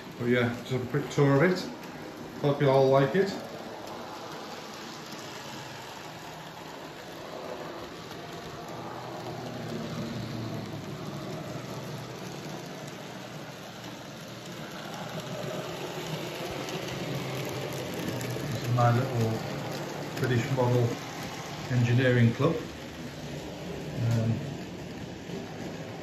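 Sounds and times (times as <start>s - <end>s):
model train motor hum: 0.0s - 26.0s
wheel rumble: 0.0s - 26.0s.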